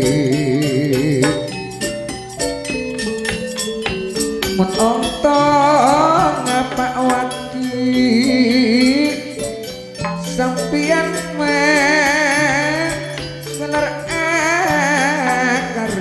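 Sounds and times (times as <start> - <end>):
man singing with vibrato: 0.0 - 2.0, 4.5 - 16.0
gamelan ensemble: 0.0 - 16.0.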